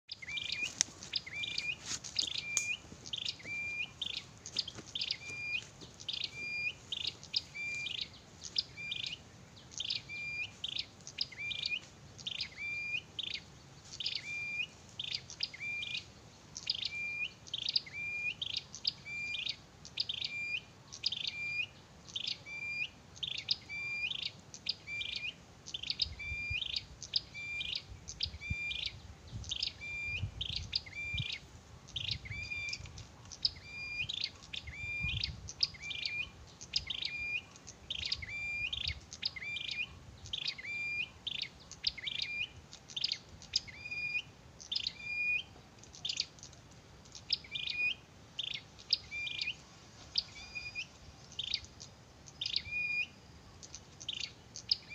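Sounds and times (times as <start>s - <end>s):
bird chirping song: 0.0s - 54.9s.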